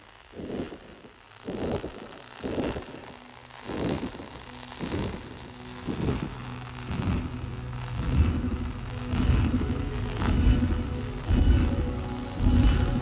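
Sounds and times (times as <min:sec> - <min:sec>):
sustained drone tones: 0:00.0 - 0:13.0
soft low pulse: 0:00.4 - 0:13.0.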